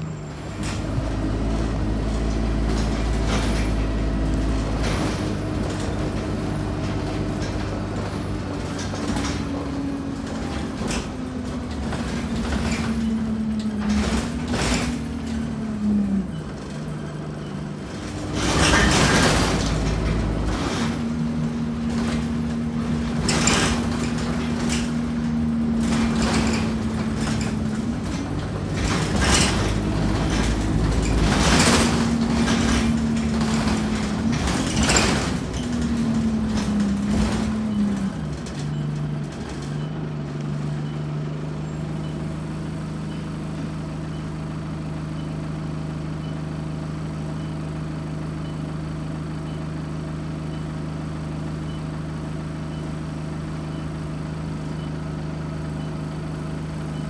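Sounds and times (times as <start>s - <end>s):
bus body rattling: 0.0s - 57.0s
bus engine running: 0.0s - 57.0s.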